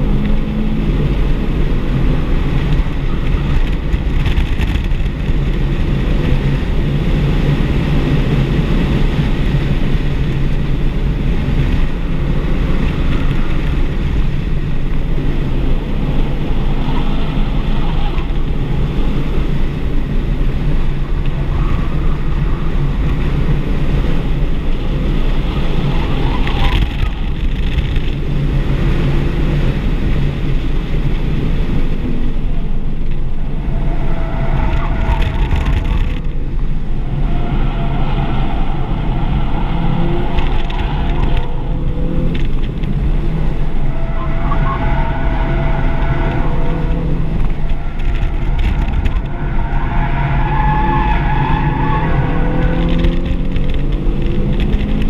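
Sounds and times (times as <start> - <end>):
car engine running hard: 0.0 - 55.0
road and wind noise: 0.0 - 55.0.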